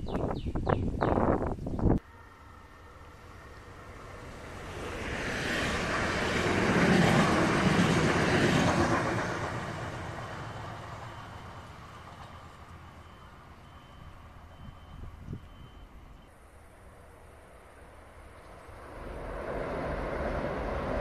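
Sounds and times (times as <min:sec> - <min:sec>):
electric train passing by: 0:02.0 - 0:21.0.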